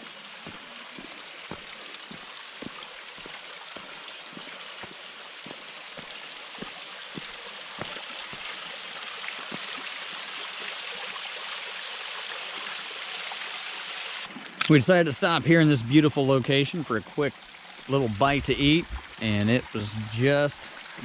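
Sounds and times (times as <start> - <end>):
stream trickling and splashing: 0.0 - 21.0.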